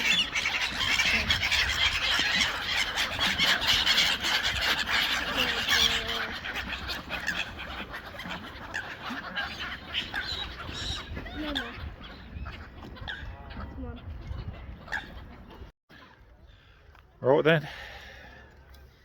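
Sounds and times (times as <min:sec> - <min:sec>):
flock of ducks calling: 0:00.0 - 0:15.6.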